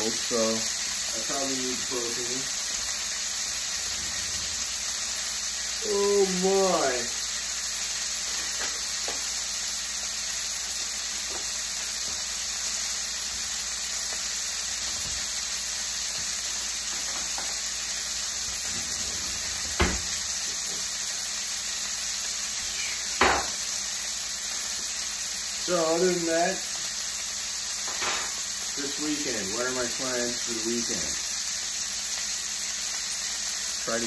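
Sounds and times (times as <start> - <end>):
steak sizzling in a frying pan: 0.0 - 34.0.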